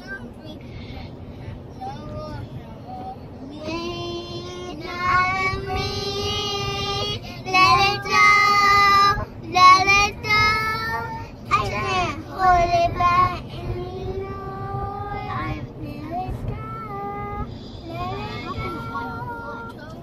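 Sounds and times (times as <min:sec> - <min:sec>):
car hum: 0:00.0 - 0:20.0
child singing: 0:01.8 - 0:20.0.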